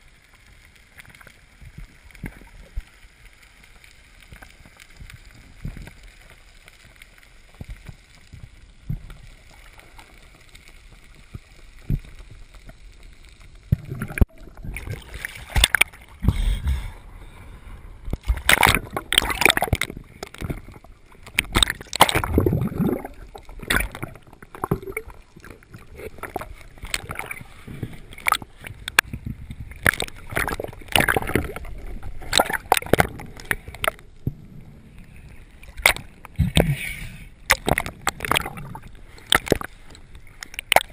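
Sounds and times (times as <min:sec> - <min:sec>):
water sloshing and gurgling: 0:00.0 - 0:40.9.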